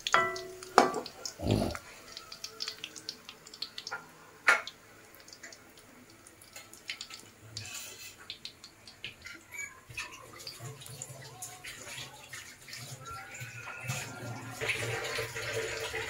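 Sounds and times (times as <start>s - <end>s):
hot oil crackling in a wok: 0.0s - 16.0s.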